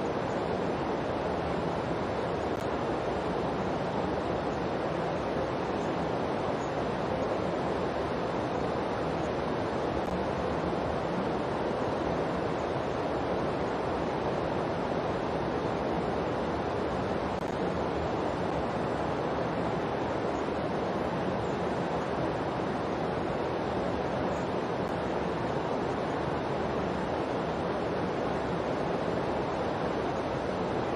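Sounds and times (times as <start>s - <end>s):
steady rushing noise: 0.0s - 30.9s.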